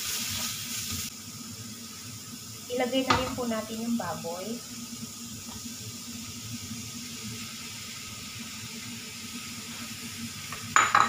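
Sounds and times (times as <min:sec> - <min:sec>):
pork sizzling in oil in a wok: 0:00.0 - 0:11.0.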